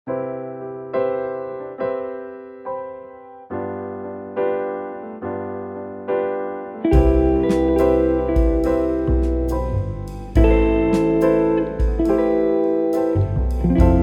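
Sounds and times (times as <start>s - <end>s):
electric piano slow chords: 0.1s - 14.0s.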